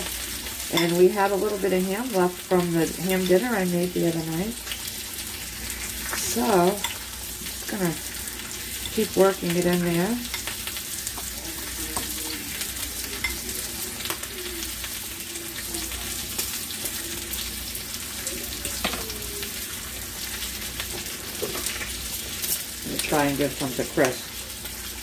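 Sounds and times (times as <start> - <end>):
steak sizzling in a pan: 0.0 - 25.0.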